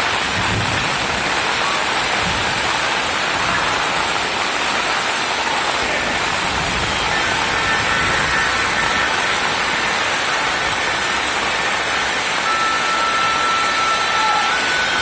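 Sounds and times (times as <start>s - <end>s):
rain and river water rushing: 0.0s - 15.0s.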